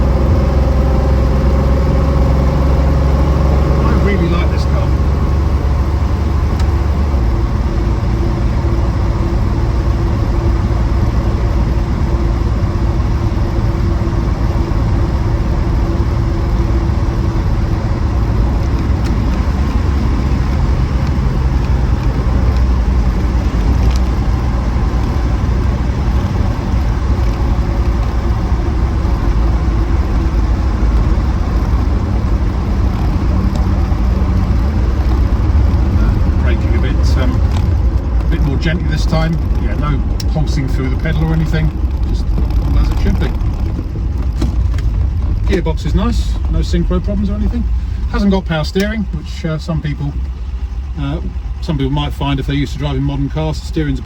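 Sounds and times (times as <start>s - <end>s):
car engine running: 0.0s - 54.0s
road and tyre noise: 0.0s - 54.0s.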